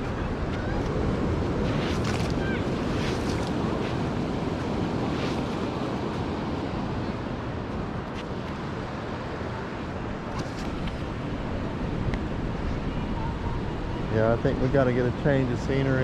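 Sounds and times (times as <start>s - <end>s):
ocean surf washing on beach: 0.0s - 16.0s
wind on microphone: 0.0s - 16.0s.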